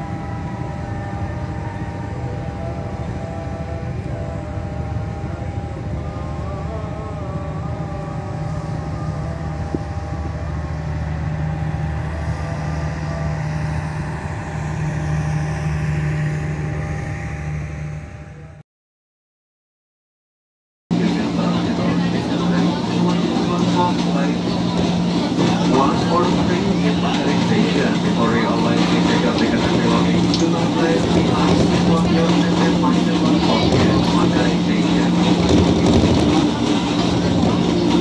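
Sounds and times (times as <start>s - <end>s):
train wheels rumbling on rails: 0.0s - 17.4s, 20.9s - 38.0s
train whine: 0.0s - 18.6s, 20.9s - 38.0s.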